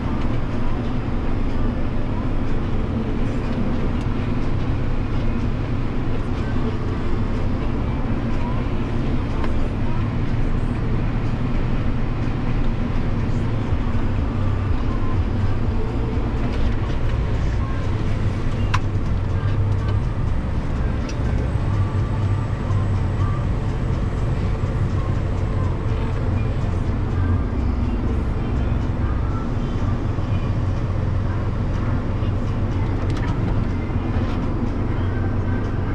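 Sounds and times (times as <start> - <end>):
diesel tractor engine droning: 0.0 - 35.9.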